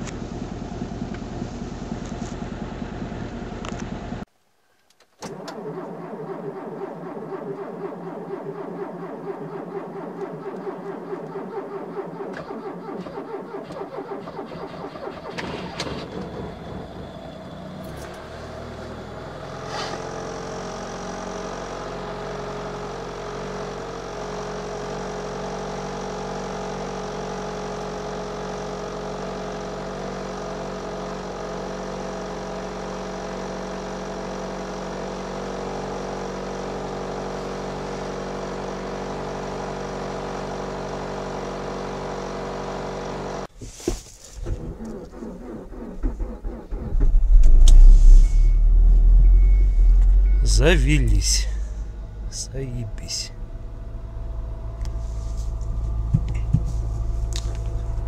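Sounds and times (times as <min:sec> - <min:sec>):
car engine cold idling: 0:00.0 - 0:04.3, 0:05.2 - 0:58.0.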